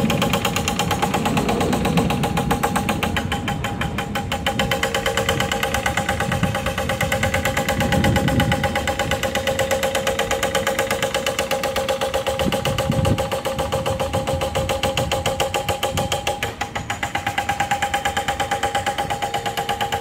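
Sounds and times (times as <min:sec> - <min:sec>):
excavator running: 0:00.0 - 0:20.0
steady whine: 0:00.0 - 0:20.0.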